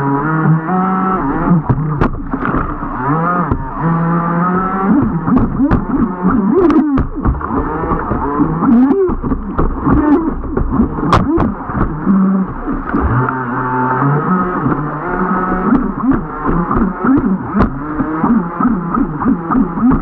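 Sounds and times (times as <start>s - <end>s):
model boat motor revving: 0.0s - 20.0s.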